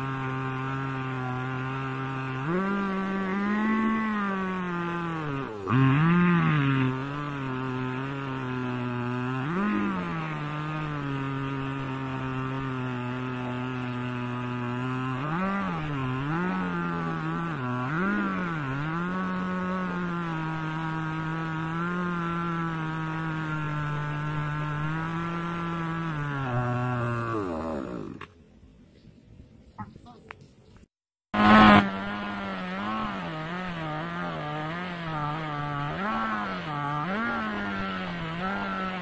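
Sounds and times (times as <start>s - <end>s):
chainsaw cutting log: 0.0s - 28.4s, 31.3s - 39.0s.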